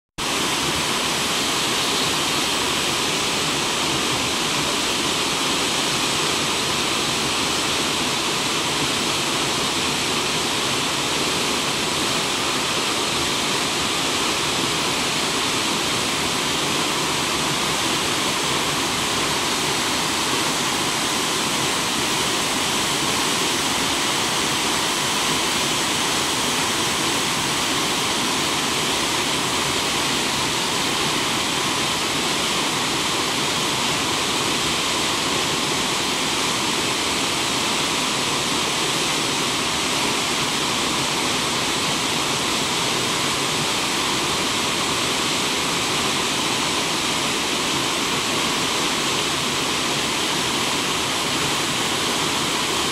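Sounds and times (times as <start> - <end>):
waterfall rushing: 0.2 - 52.9.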